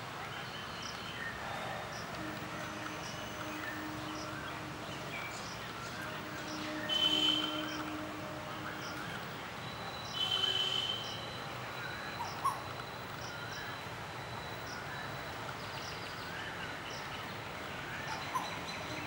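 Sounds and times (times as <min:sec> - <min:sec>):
outdoor background noise: 0:00.0 - 0:19.0
birds chirping: 0:00.3 - 0:19.0.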